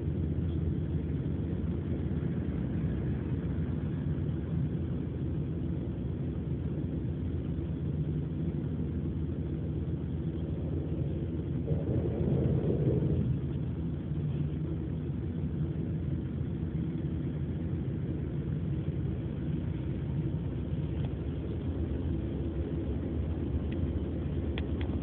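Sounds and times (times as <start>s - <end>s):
car interior low rumble: 0.0s - 25.0s.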